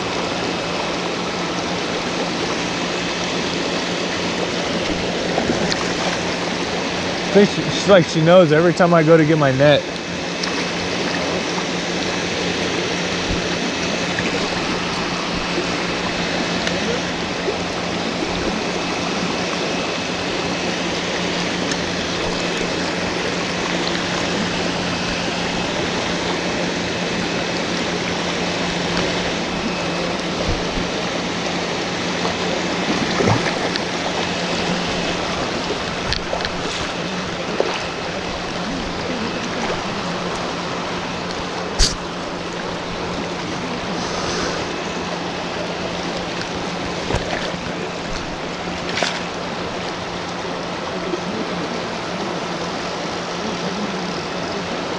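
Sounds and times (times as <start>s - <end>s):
creek water rushing: 0.0s - 54.9s
low steady hum: 0.0s - 54.9s.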